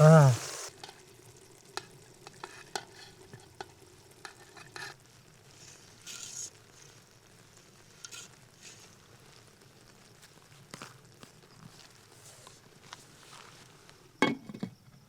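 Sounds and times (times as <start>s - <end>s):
food sizzling: 0.0s - 14.2s.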